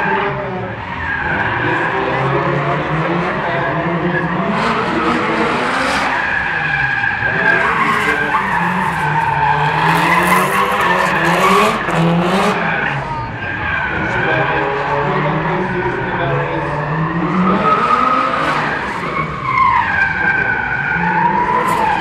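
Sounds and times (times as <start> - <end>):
car engines revving hard: 0.0 - 22.0
tyres squealing and skidding: 0.0 - 22.0.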